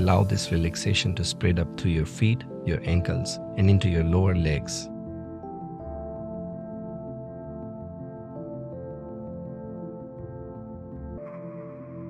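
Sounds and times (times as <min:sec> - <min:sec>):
calm ambient music: 0:00.0 - 0:12.0.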